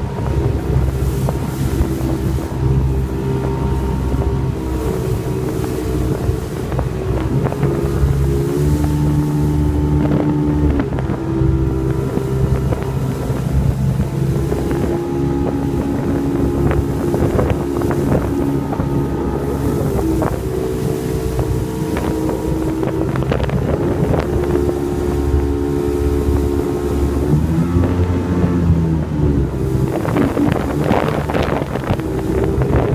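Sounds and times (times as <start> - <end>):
motorboat engine running: 0.0 - 32.9
wind buffeting microphone: 0.0 - 32.9.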